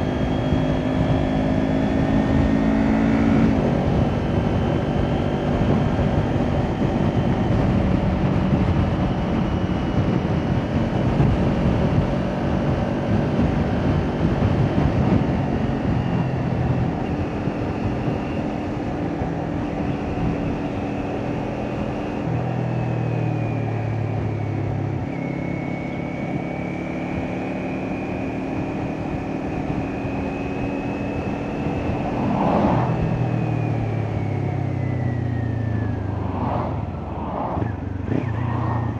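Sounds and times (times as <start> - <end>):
motorcycle engine revving: 0.0 - 23.5, 24.2 - 38.9.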